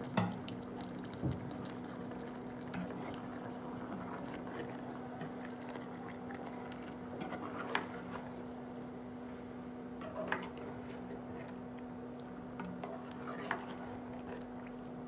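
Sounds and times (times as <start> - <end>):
wet squelches of stirring: 0.0 - 15.0.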